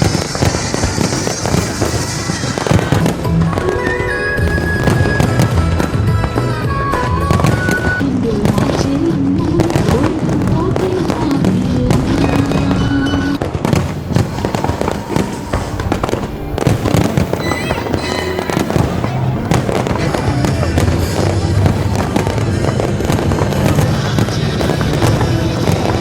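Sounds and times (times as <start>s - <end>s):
loud music: 0.0s - 8.2s, 9.6s - 26.0s
fireworks bangs and crackles: 0.0s - 26.0s.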